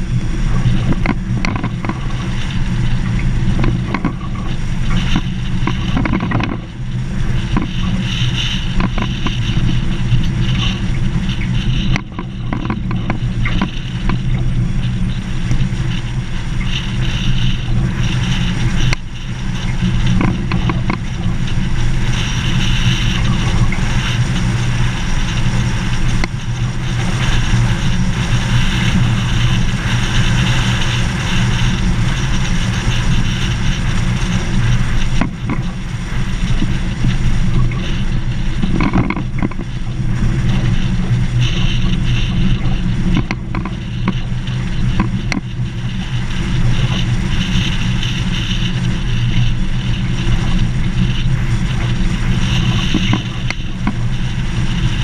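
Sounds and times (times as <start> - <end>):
vehicle rumbling on gravel: 0.0 - 55.0.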